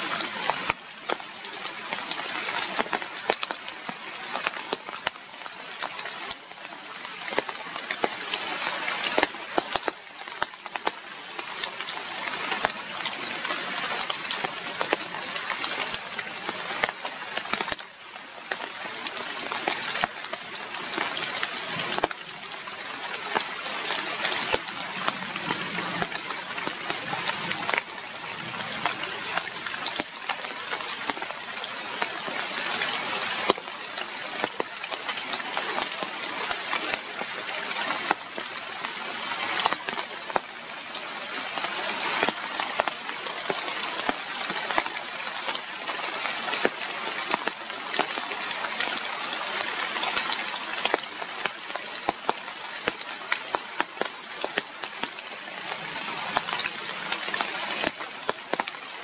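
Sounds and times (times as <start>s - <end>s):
rain falling steadily: 0.0s - 59.0s
raindrops ticking on surfaces: 0.0s - 59.0s.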